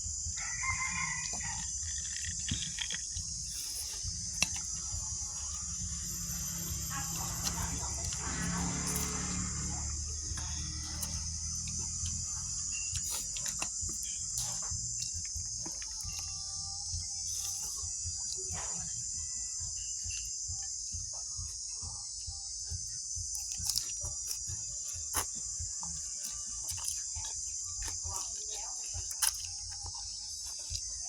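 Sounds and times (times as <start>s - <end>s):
crickets trilling: 0.0s - 31.0s
low background hum: 0.0s - 31.0s.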